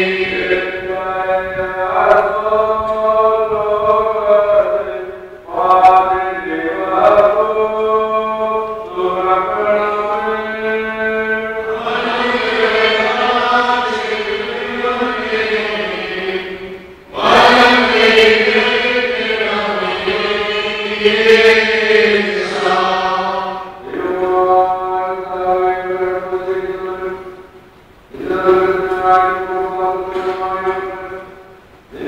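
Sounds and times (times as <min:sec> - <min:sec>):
voices chanting a hymn: 0:00.0 - 0:32.0.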